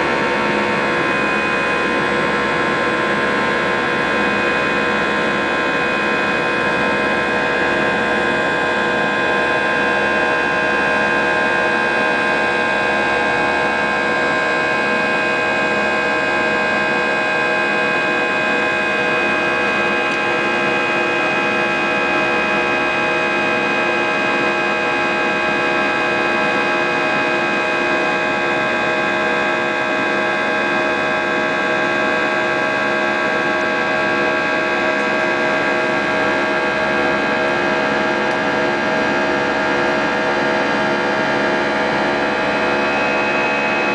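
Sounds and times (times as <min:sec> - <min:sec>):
airplane cabin engine noise: 0:00.0 - 0:43.9.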